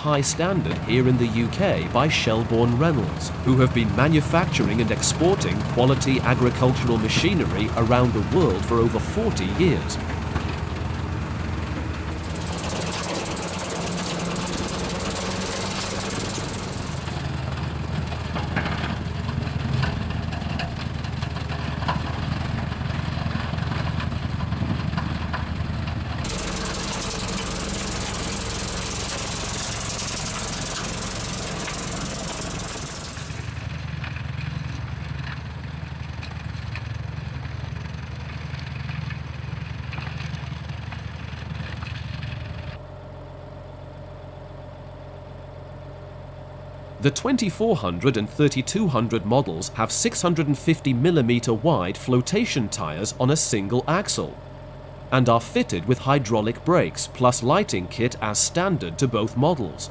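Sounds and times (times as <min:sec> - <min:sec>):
tractor diesel engine running: 0:00.0 - 0:42.7, 0:44.2 - 0:59.9.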